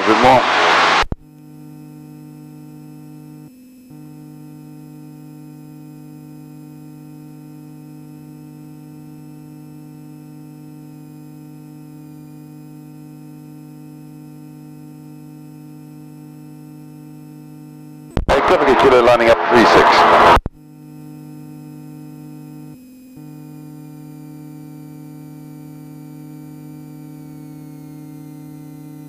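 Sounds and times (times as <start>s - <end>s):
intercom hum: 0.0s - 3.4s, 4.0s - 27.5s.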